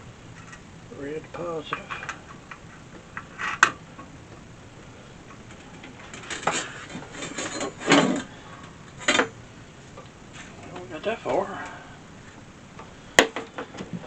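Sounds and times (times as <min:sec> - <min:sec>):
wires rubbing and rattling: 0:00.0 - 0:14.0.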